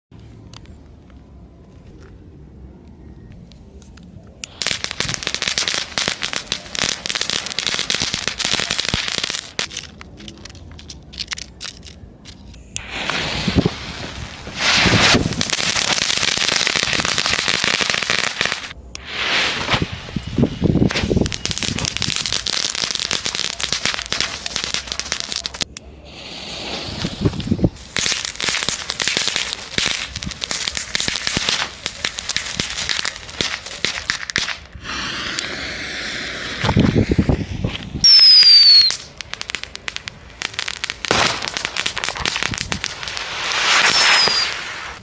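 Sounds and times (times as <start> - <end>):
firecrackers crackling: 4.4 - 45.0.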